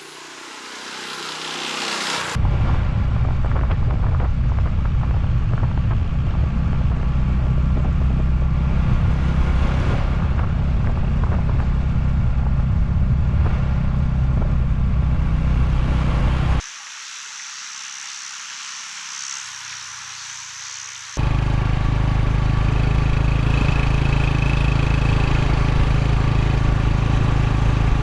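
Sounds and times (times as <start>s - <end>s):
motorcycle engine running: 0.0s - 16.6s, 20.1s - 28.0s.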